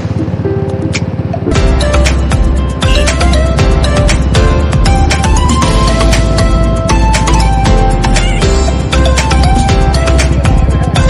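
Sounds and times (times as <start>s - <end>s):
music with heavy bass beat: 1.0s - 11.0s.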